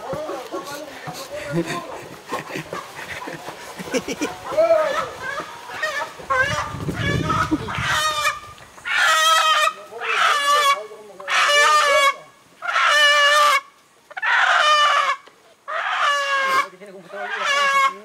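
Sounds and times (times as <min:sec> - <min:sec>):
chicken squawking: 0:00.2 - 0:18.0.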